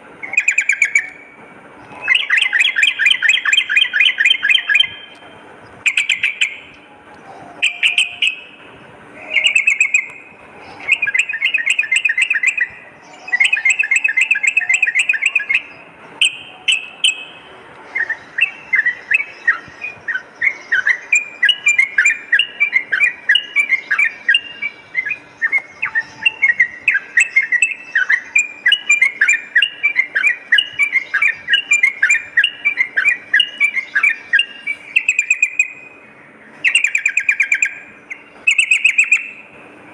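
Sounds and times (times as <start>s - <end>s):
bird singing chattering notes: 0.2s - 39.6s.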